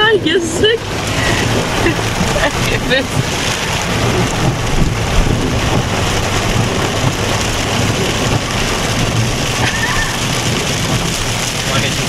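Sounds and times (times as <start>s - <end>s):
car driving noise: 0.0s - 12.0s
heavy rain on car roof: 0.0s - 12.0s.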